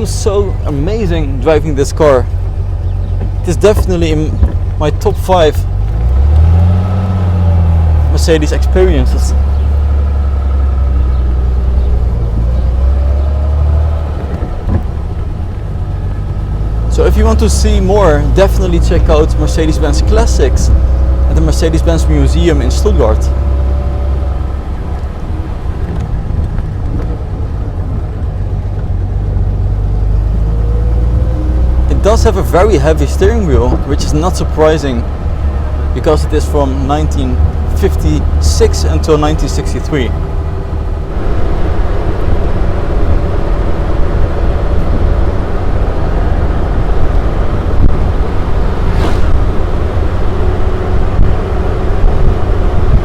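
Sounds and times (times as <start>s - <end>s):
car engine low rumble: 0.0s - 53.0s
road and wind noise: 0.0s - 53.0s.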